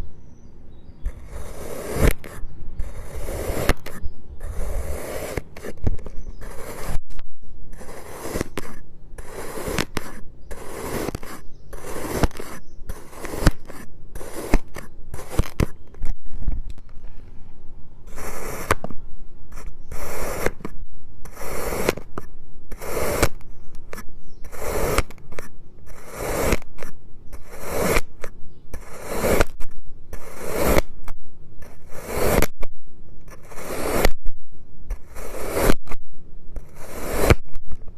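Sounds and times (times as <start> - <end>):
blade scraping sand: 1.0 - 16.4, 18.1 - 36.0, 36.6 - 37.9.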